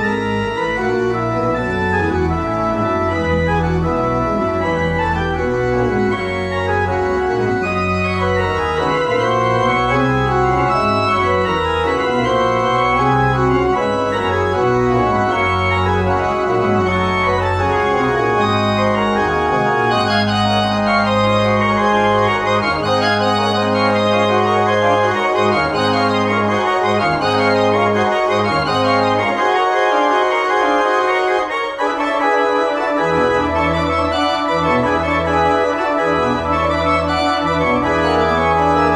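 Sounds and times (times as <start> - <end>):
deep organ pedal bass: 0.0 - 38.9
organ chords: 0.0 - 38.9.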